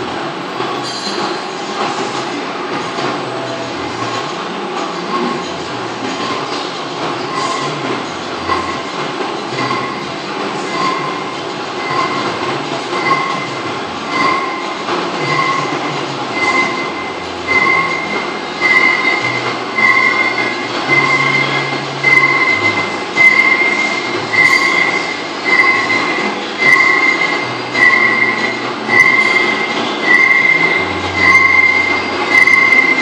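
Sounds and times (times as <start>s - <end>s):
high-pitched metallic squeal: 0.8s - 1.5s, 5.0s - 8.9s, 9.5s - 33.0s
lathe cutting metal: 2.6s - 33.0s.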